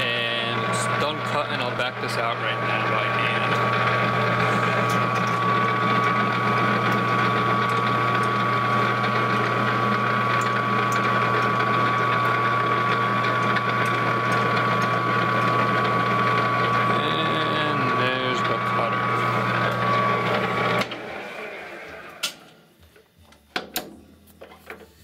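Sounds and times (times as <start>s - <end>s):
metal lathe whine and hum: 0.0s - 22.6s.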